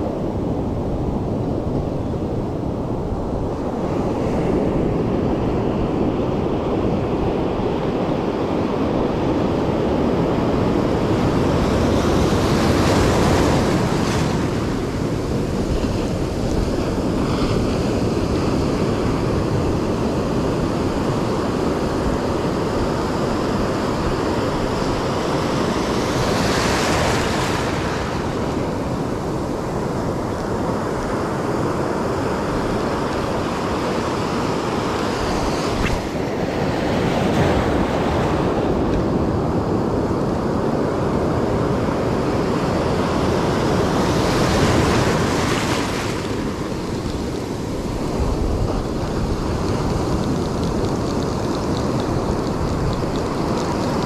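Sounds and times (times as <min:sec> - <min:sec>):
ocean surf rushing: 0:00.0 - 0:54.0
wind buffeting microphone: 0:00.0 - 0:54.0.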